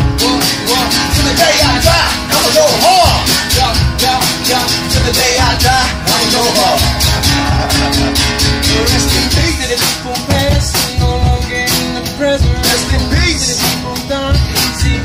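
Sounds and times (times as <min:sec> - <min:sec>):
music with steady beat: 0:00.0 - 0:15.0
person singing: 0:00.0 - 0:15.0.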